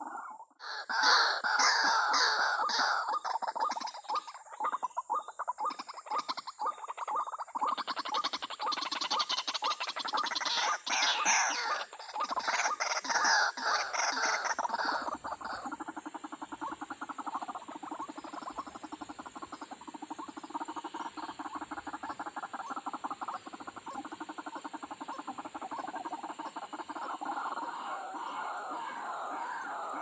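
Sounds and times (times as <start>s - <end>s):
waterhen calling: 0.0s - 4.9s, 5.6s - 30.0s.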